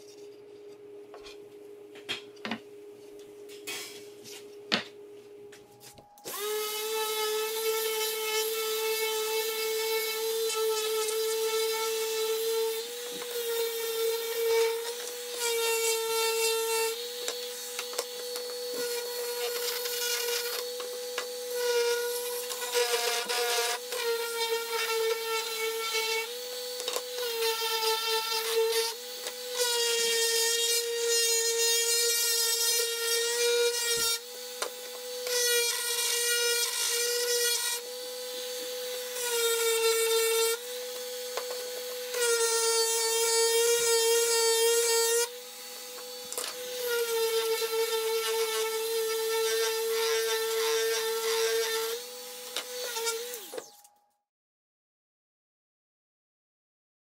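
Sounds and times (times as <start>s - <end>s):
orbital sander motor hum: 6.2s - 53.6s.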